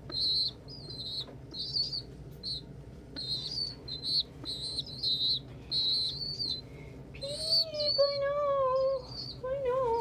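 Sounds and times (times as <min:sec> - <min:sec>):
young pigeons peeping: 0:00.0 - 0:10.0.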